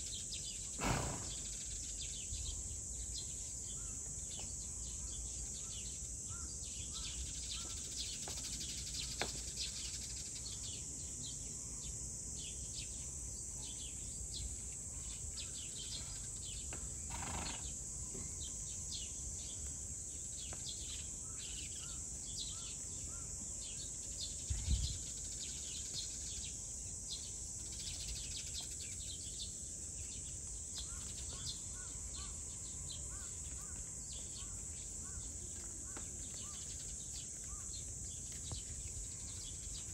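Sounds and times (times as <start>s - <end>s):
insect drone: 0.0s - 3.9s, 4.6s - 39.9s.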